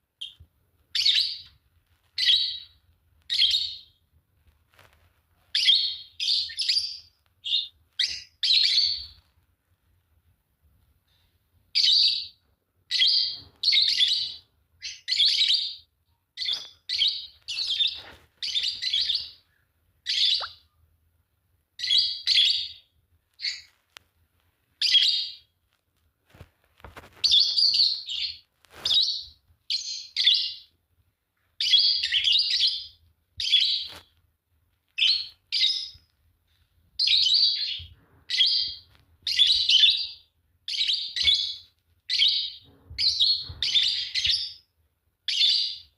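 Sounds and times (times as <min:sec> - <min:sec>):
lovebirds chirping: 0:00.2 - 0:04.1, 0:05.4 - 0:09.4, 0:11.0 - 0:20.9, 0:21.8 - 0:23.8, 0:24.6 - 0:25.6, 0:27.0 - 0:30.8, 0:31.5 - 0:34.2, 0:35.0 - 0:45.9.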